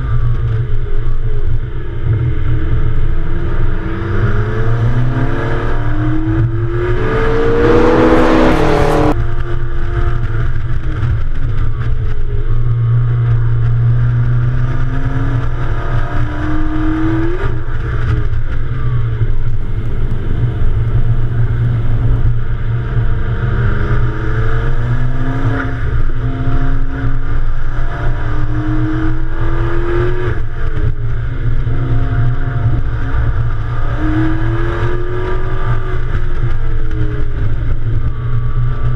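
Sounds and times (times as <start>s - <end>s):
sports car engine revving: 2.0s - 10.5s, 13.0s - 37.7s.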